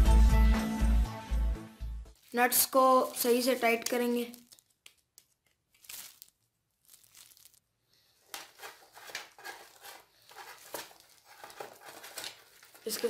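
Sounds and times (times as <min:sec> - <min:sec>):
plastic gloves crinkling: 0:02.1 - 0:13.0.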